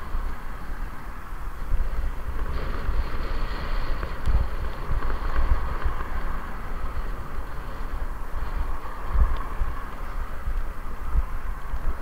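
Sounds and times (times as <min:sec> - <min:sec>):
road and traffic hiss: 0:00.0 - 0:12.0
wind buffeting microphone: 0:00.0 - 0:12.0.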